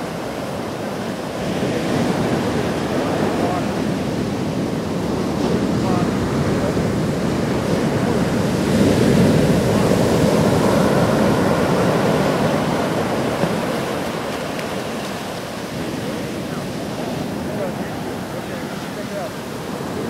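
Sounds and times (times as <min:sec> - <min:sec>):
waves breaking on shore: 0:00.0 - 0:20.0.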